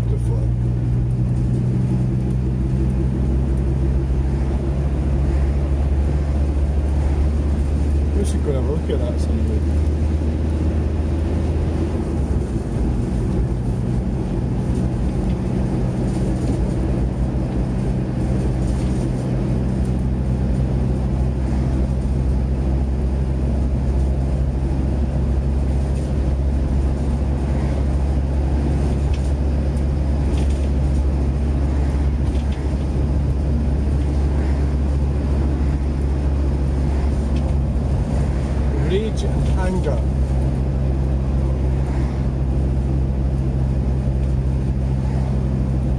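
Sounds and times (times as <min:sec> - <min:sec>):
road noise: 0:00.0 - 0:45.9
van engine drone: 0:00.0 - 0:45.9
van rattling: 0:00.0 - 0:45.9.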